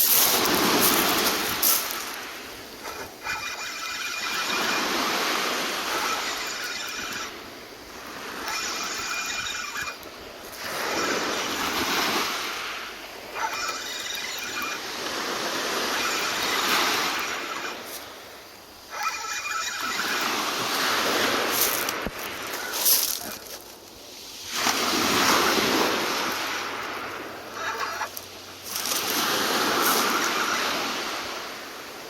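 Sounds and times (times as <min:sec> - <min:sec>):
sea waves washing in: 0:00.0 - 0:32.0.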